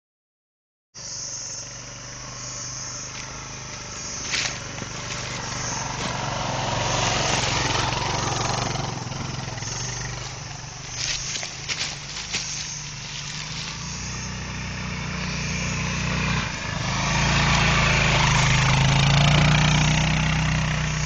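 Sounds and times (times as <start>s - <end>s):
motorcycle engine idling: 1.0s - 21.0s.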